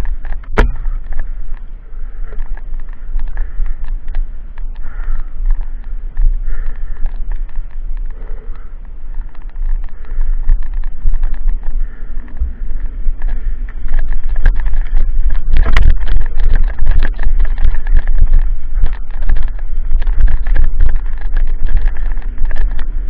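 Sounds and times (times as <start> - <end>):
bike rattling over stones: 0.0 - 23.0
wind on microphone: 0.0 - 23.0.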